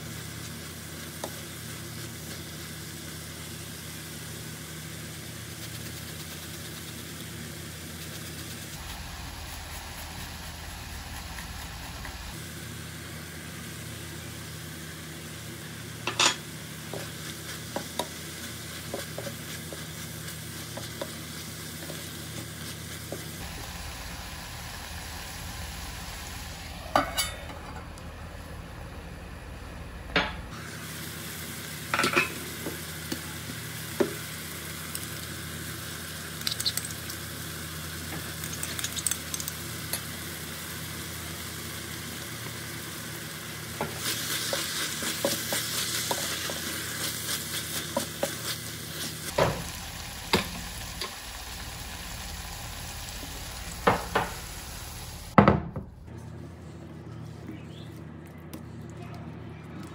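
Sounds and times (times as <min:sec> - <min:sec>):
food sizzling in hot oil: 0:00.0 - 0:55.4.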